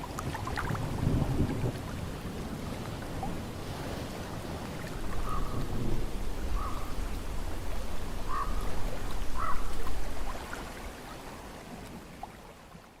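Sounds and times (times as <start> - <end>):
ocean breeze and surf rumble: 0.0 - 13.0.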